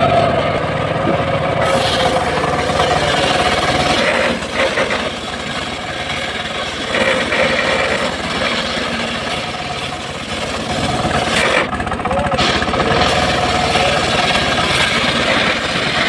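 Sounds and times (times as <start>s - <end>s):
circular saw cutting log: 0.0s - 16.0s.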